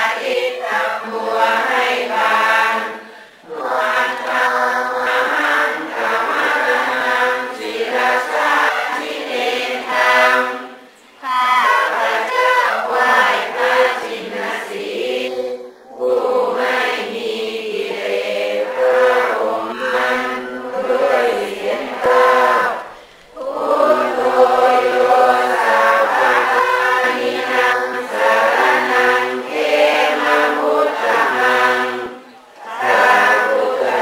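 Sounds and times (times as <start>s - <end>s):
voices singing a chant: 0.0s - 34.0s.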